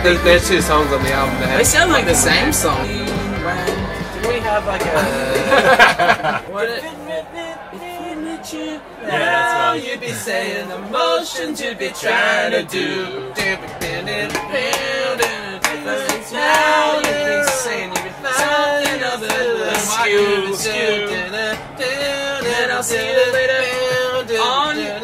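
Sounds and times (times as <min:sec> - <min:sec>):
men singing together unaccompanied: 0:00.0 - 0:25.0.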